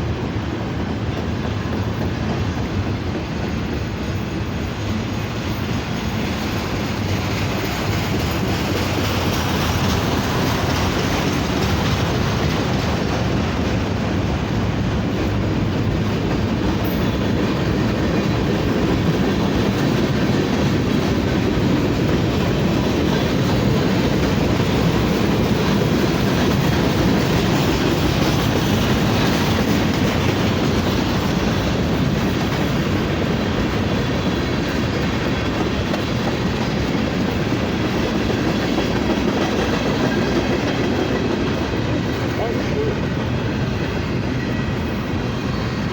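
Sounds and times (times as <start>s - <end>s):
freight train wheels rumbling on rails: 0.0s - 45.9s.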